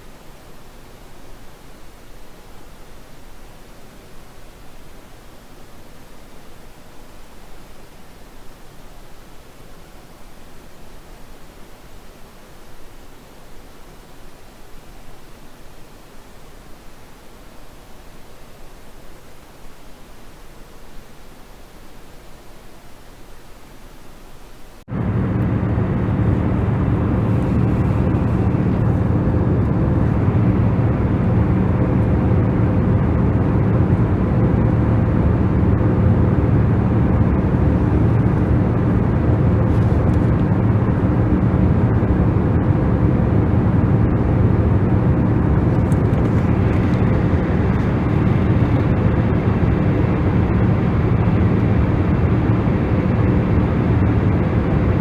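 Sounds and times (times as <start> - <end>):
low engine drone with hum tones: 0.0 - 55.0.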